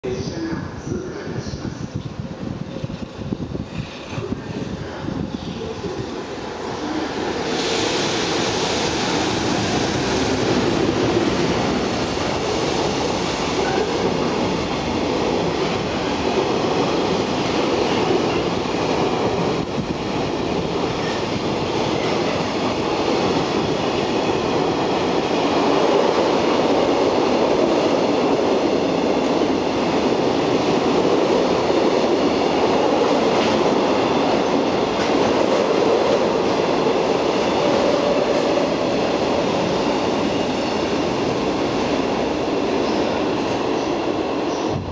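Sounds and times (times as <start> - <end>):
freight train wheels rumbling: 0.0 - 44.9.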